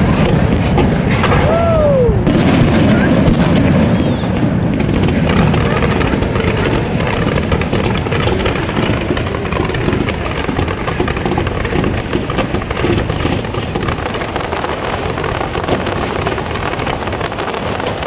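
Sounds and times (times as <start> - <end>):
fireworks booming and crackling: 0.0 - 18.0.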